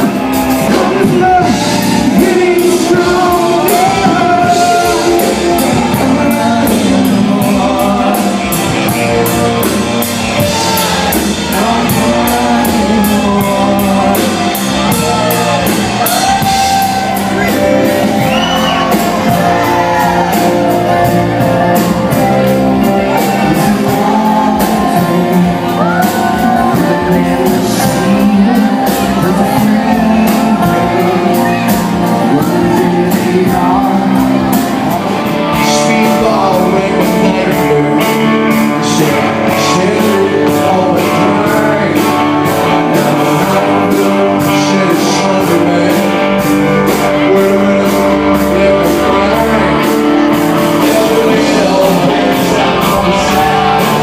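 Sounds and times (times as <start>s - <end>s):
person singing: 0.0s - 54.0s
rock band playing live: 0.0s - 54.0s.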